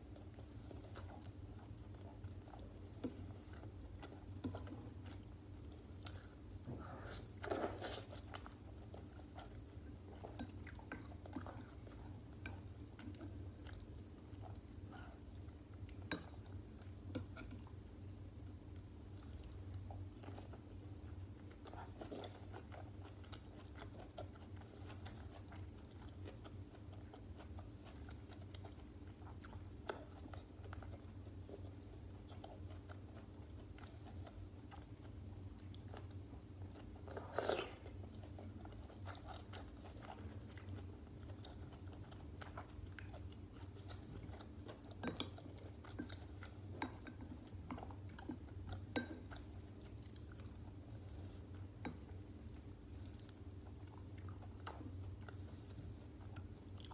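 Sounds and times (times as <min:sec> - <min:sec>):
close chewing mouth sounds: 0:00.0 - 0:56.9.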